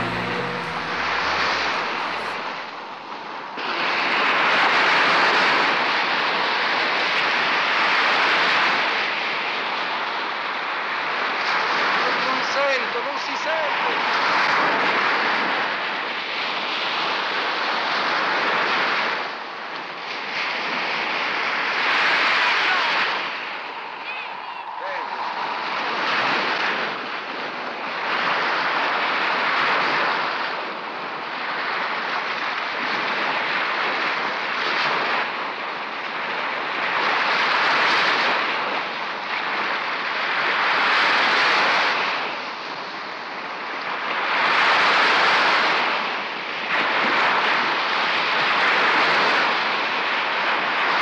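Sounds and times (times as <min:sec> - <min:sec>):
waves breaking on beach: 0:00.0 - 0:51.0
wind: 0:00.0 - 0:51.0.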